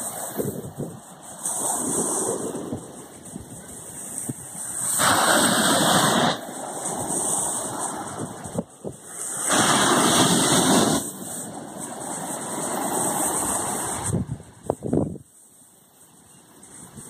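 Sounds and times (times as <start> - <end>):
sea surf washing onto beach: 0.0 - 15.0.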